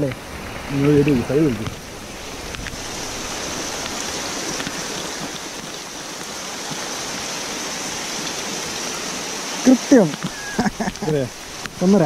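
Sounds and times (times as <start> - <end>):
rain and running water: 0.0 - 12.0.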